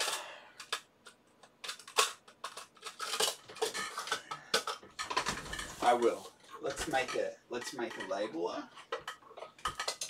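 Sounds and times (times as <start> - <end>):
plastic parts clattering: 0.0 - 10.0.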